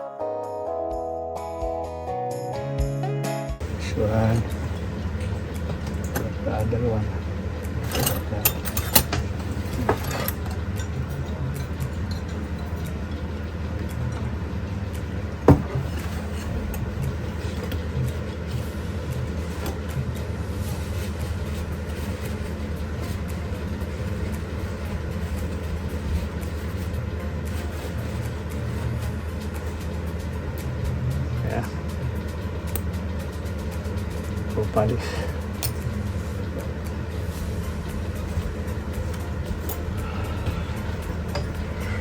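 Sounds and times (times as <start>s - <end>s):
low machine hum: 3.6s - 42.0s.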